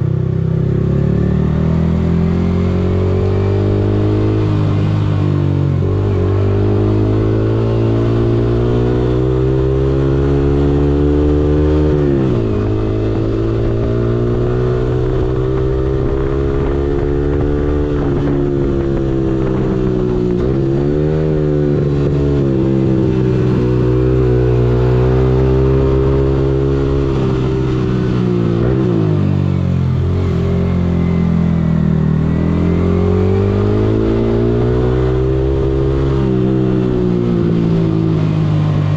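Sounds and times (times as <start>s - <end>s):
motorcycle accelerating through gears: 0.0s - 38.9s.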